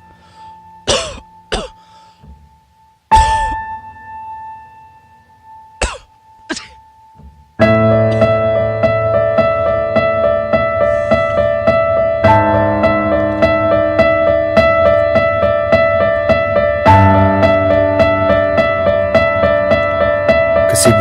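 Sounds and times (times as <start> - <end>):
piano music repeated notes: 0.0 - 21.0.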